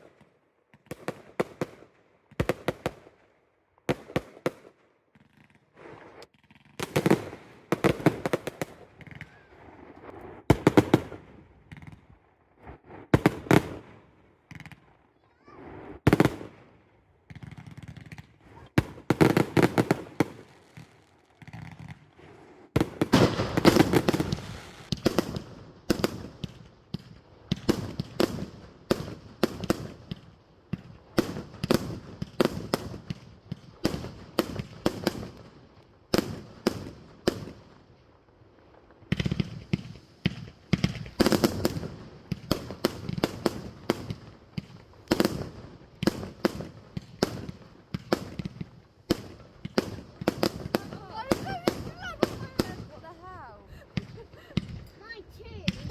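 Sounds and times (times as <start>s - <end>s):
fireworks bangs: 3.9s - 35.5s, 38.8s - 55.9s.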